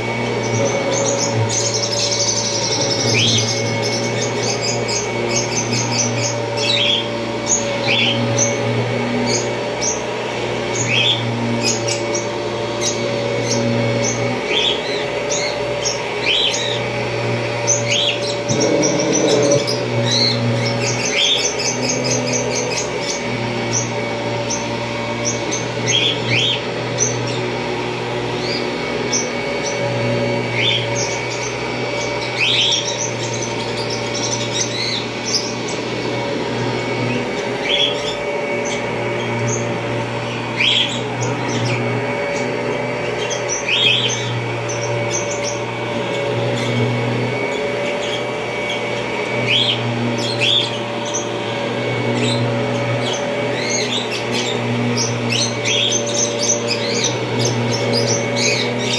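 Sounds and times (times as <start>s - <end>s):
vacuum cleaner motor humming: 0.0s - 58.9s.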